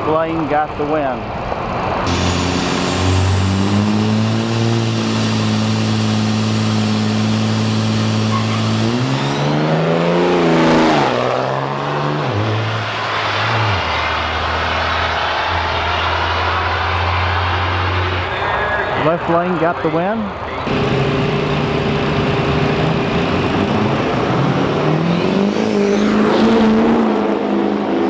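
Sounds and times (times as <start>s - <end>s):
drag racing engines whining: 0.0s - 28.0s
vehicle passing by: 1.6s - 19.8s, 22.0s - 28.0s.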